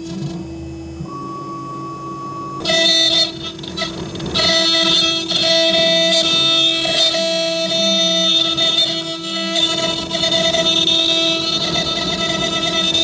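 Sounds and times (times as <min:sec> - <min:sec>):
router spindle whining: 0:02.6 - 0:13.0.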